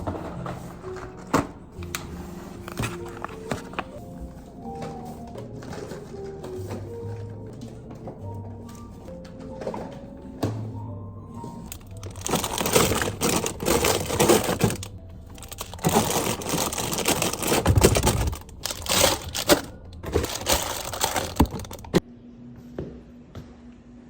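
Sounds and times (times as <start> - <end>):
crackling rustling noise: 0.0 - 10.2, 11.3 - 22.0
background music: 0.0 - 22.1.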